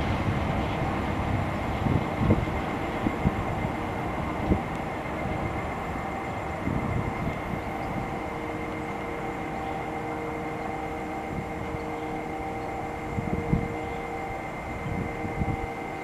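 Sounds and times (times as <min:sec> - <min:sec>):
electric train rumbling: 0:00.0 - 0:16.0
steady hum of held tones: 0:00.0 - 0:16.0.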